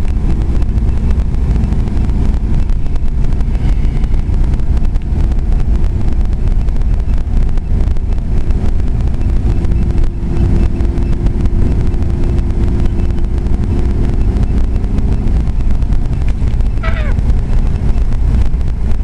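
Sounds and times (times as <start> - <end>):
vehicle engine running: 0.0 - 19.0
wind buffeting microphone: 0.0 - 19.0.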